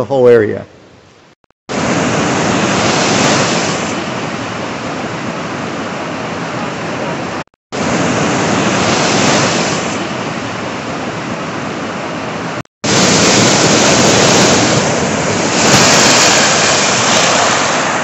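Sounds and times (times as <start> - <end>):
ocean surf on rocks and pebbles: 1.7 - 18.0.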